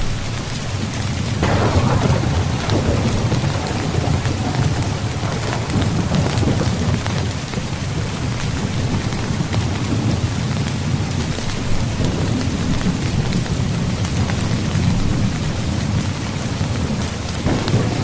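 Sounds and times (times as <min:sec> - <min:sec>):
rain drops ticking on tent fabric: 0:00.0 - 0:18.0.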